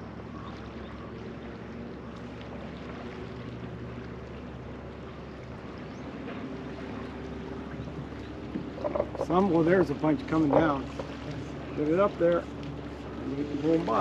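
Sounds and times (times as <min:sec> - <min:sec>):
fast-flowing river water: 0:00.0 - 0:14.0.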